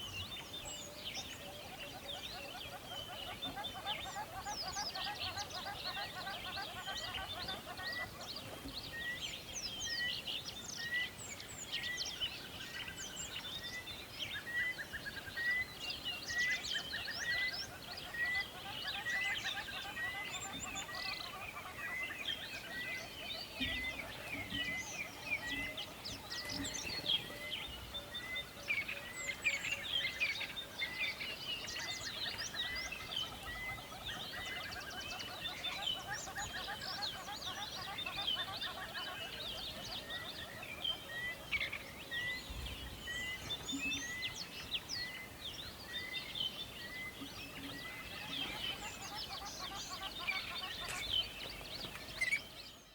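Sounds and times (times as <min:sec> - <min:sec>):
songbirds singing and chirping: 0:00.0 - 0:52.9.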